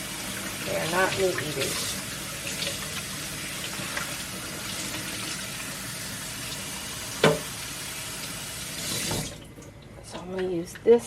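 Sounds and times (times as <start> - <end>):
water running from tap into sink: 0.0 - 11.0.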